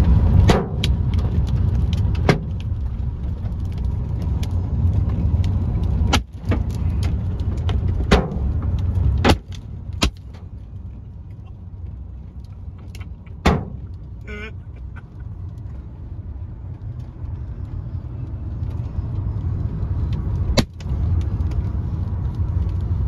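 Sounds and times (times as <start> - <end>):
road and wind rumble: 0.0 - 23.0.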